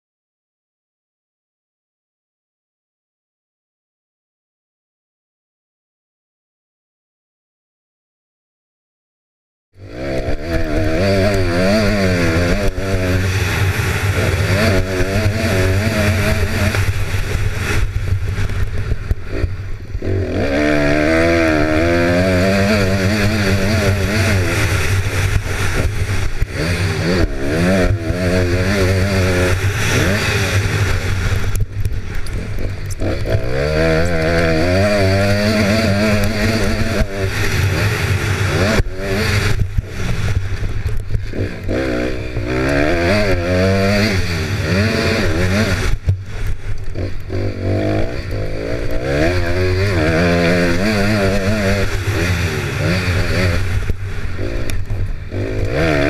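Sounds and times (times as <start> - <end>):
motocross bike engine revving: 9.8 - 56.0.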